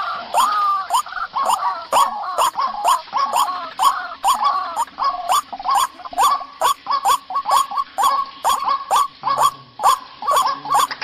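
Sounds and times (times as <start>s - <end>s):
waterhen calling: 0.0s - 11.0s.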